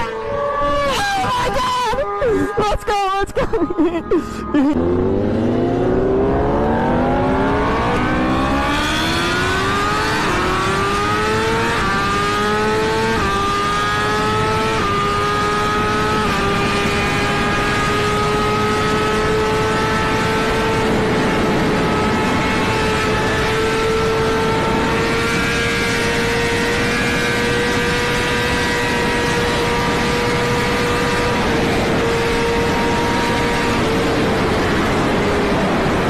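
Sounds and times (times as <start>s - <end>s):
motorcycle engine accelerating: 0.0s - 2.6s, 3.8s - 36.0s.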